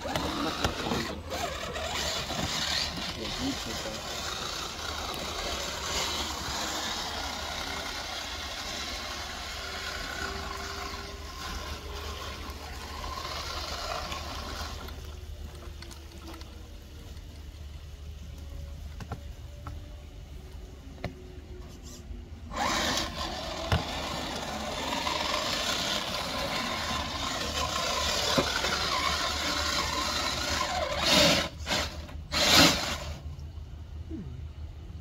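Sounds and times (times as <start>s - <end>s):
small electric motor whining: 0.0s - 33.3s.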